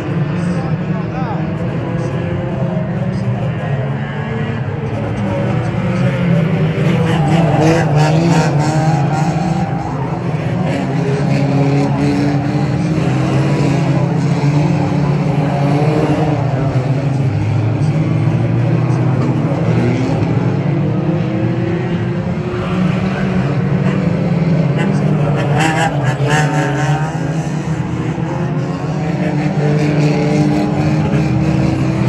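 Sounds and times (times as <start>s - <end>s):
racing car engines revving: 0.0s - 32.0s.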